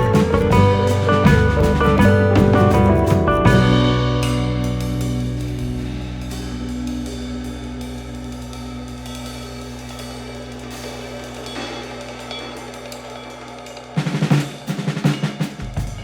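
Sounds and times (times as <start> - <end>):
low sustained music notes: 0.0 - 13.9.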